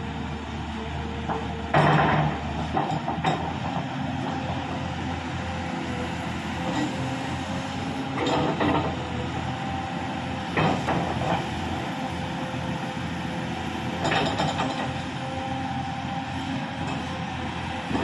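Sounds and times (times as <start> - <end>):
excavator engine and hydraulics whining: 0.0 - 18.0.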